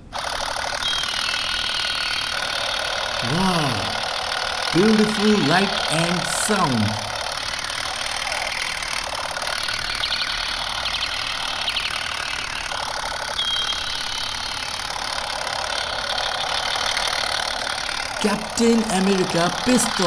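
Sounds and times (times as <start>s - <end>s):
toy gun electronic gunfire: 0.0s - 20.0s.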